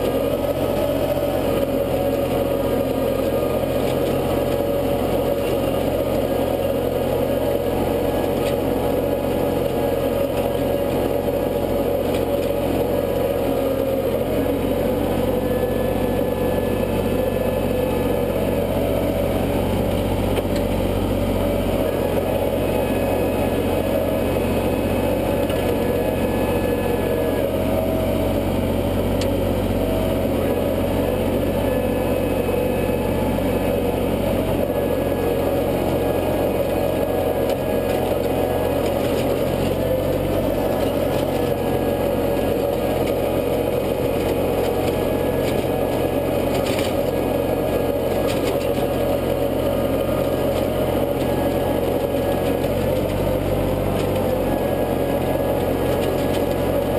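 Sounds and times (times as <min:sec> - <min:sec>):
tiller tines churning soil: 0:00.0 - 0:56.9
tractor engine running: 0:00.0 - 0:56.9.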